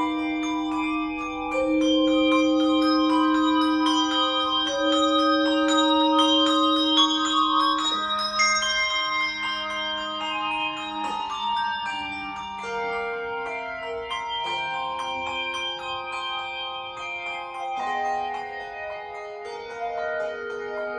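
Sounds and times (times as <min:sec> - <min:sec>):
handbells playing melody: 0:00.0 - 0:20.9.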